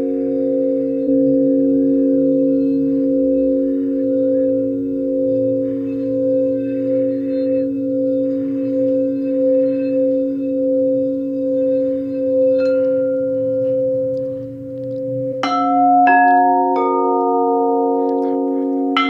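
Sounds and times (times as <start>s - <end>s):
singing bowls ringing: 0.0s - 19.0s
singing bowls struck: 0.0s - 19.0s.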